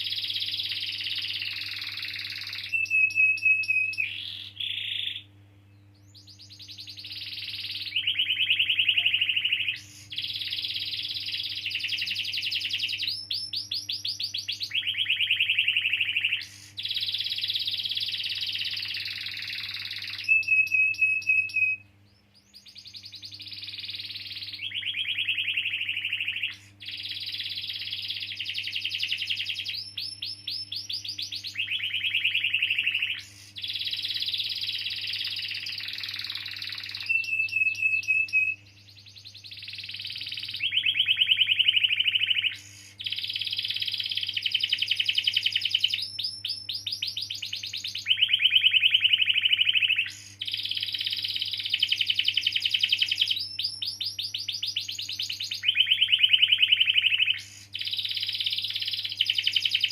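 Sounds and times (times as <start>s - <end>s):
canary singing trills: 0.0s - 59.9s
low electrical hum: 0.0s - 59.9s.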